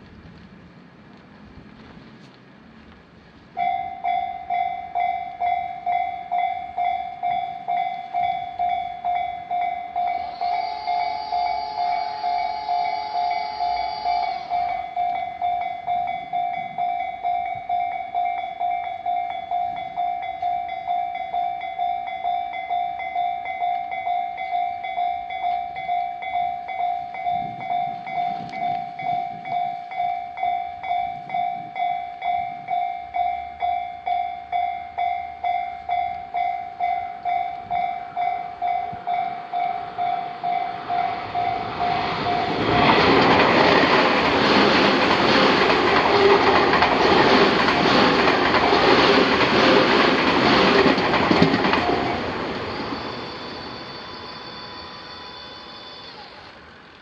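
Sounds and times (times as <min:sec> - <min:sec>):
electric train passing: 0:00.0 - 0:57.0
level crossing warning bell ringing: 0:03.6 - 0:56.5.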